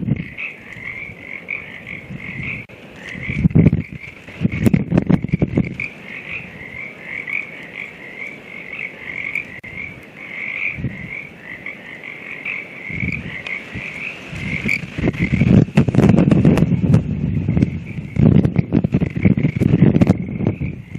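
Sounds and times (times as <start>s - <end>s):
frogs croaking: 0.0s - 20.9s
wind buffeting microphone: 0.0s - 20.9s.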